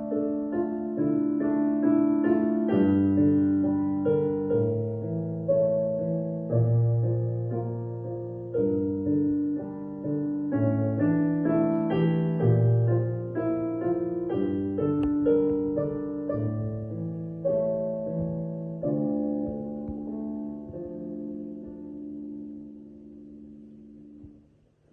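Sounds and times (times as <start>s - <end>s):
solo piano piece: 0.0s - 24.9s.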